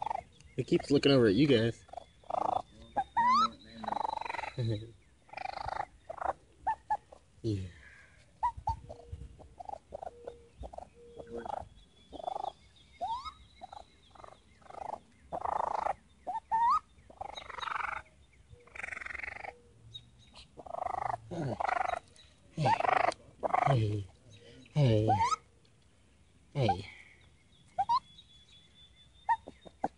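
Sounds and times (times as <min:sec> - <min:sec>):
baby raccoon chittering calls: 0:00.0 - 0:25.6, 0:26.5 - 0:29.9.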